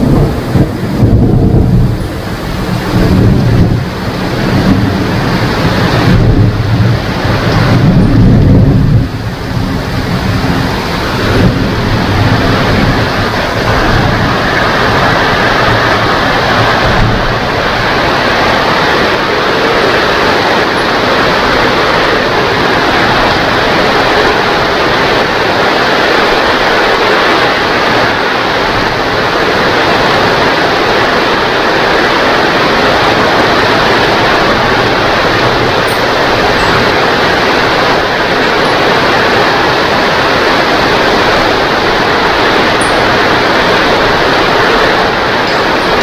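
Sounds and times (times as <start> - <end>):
steady rain: 0.0 - 46.0
thunder rumbling: 0.0 - 46.0.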